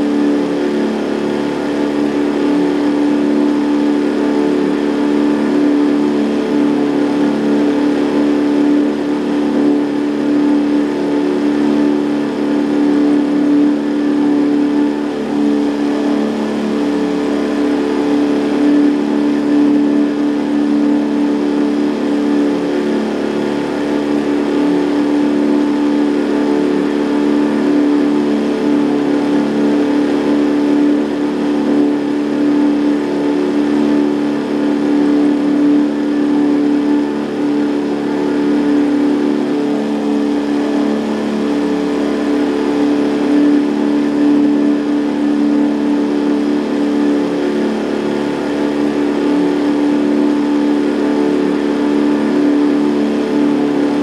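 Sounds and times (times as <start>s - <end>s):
outboard motor drone: 0.0s - 54.0s.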